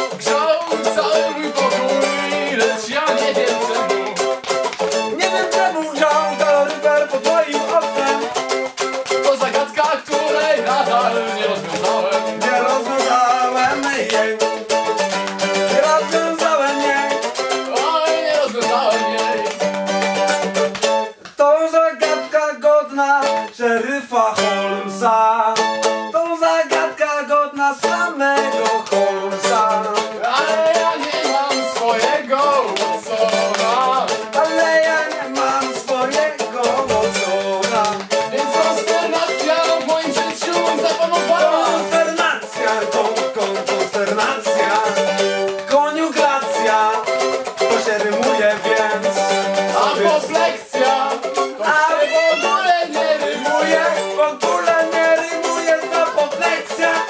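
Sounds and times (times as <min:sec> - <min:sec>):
mandolin strumming: 0:00.0 - 0:57.0.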